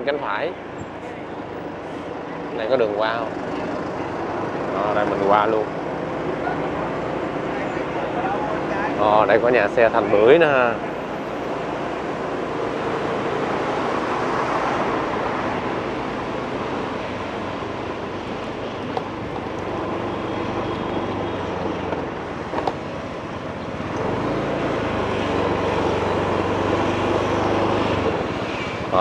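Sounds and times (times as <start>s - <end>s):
road and wind noise: 0.0s - 29.0s.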